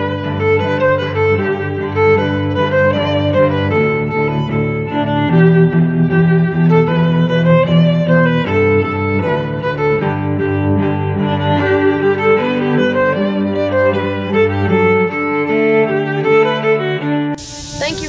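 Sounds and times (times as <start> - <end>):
bowed strings music: 0.0 - 18.0.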